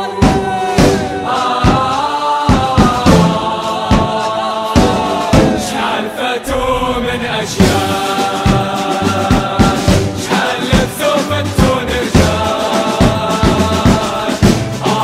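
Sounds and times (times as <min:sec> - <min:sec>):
crowd chanting in unison: 0:00.0 - 0:15.0
steady drum beats: 0:00.0 - 0:15.0.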